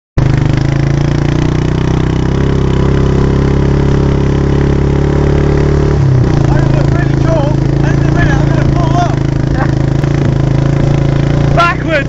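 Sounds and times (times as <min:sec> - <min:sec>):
quad bike engine running: 0:00.2 - 0:12.0.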